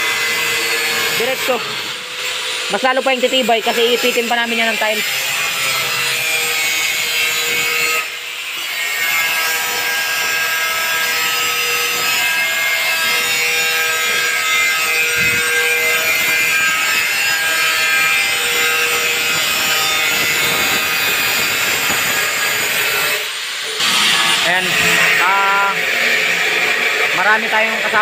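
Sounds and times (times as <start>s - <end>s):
angle grinder cutting: 0.0s - 28.0s.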